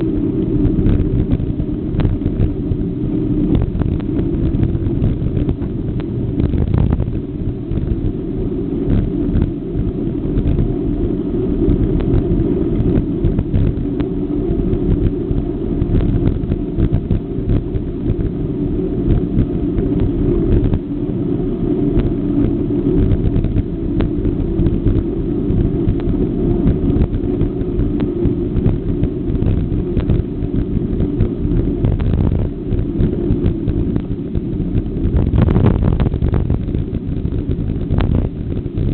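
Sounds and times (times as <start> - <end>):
bicycle road vibration: 0.0 - 38.9
wind buffeting microphone: 0.0 - 38.9.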